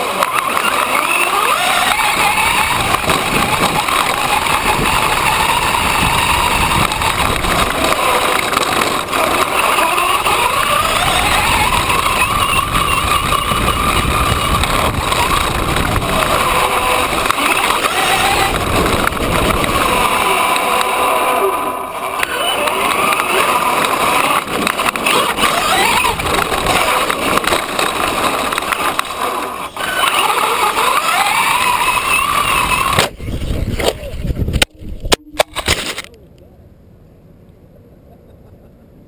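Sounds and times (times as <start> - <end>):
electric motor whining: 0.0 - 36.1
truck rumbling over rough ground: 0.0 - 36.3.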